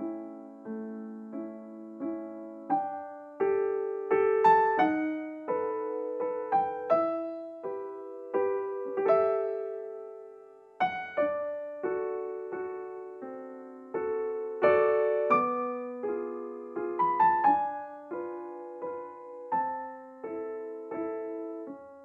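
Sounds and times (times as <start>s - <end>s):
slow solo piano: 0.0s - 22.0s.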